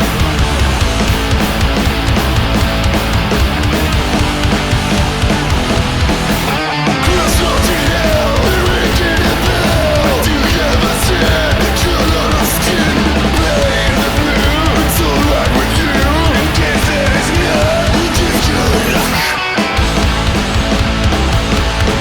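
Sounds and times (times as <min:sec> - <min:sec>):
punk rock song: 0:00.0 - 0:22.0.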